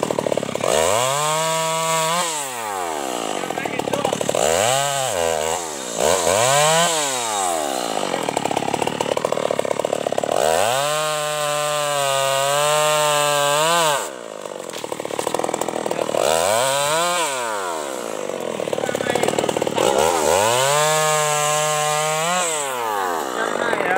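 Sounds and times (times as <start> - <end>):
chainsaw revving and idling: 0.0 - 23.9.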